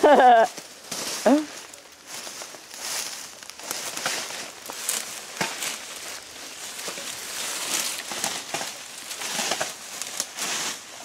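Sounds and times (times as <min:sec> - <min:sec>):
rake scratching through dry leaves: 0:00.3 - 0:11.0.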